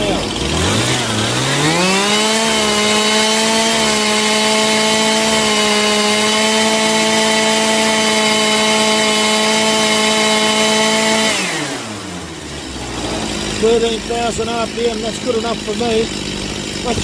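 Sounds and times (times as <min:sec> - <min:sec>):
chainsaw engine at full throttle: 0:00.0 - 0:17.0.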